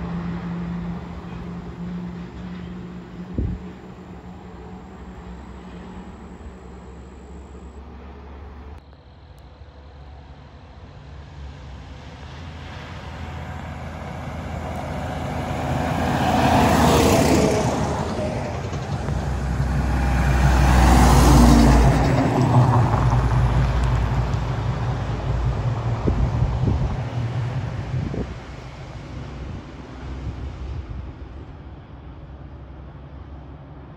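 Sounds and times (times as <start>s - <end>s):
diesel engines rumbling: 0.0s - 33.9s
trucks driving past: 0.0s - 33.9s.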